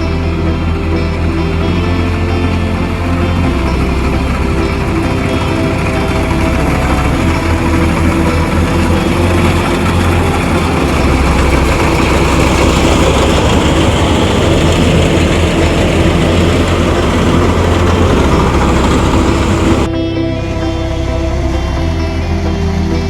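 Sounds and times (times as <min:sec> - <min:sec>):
heavy machinery engine whirring: 0:00.0 - 0:23.0.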